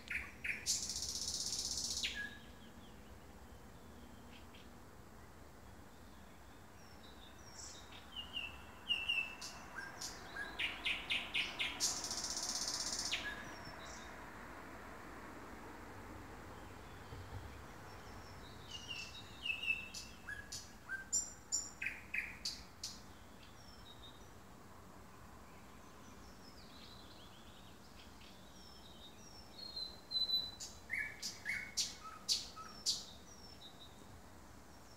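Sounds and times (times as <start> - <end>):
nightingale singing: 0.0 - 4.7, 5.6 - 14.2, 16.6 - 24.4, 25.5 - 34.1.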